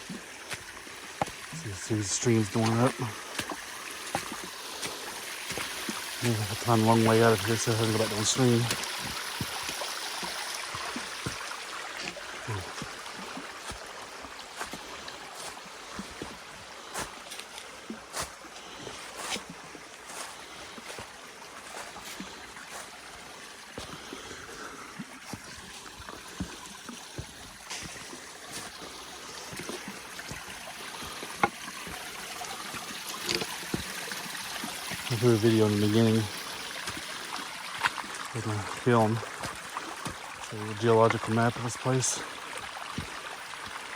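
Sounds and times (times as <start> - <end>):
boots wading and splashing: 0.0 - 43.9
creek rushing over rock: 0.0 - 43.9.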